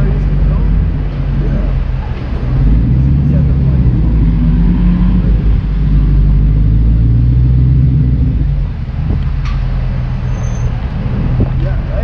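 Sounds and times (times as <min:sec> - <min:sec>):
car engine exhaust note: 0:00.0 - 0:12.0.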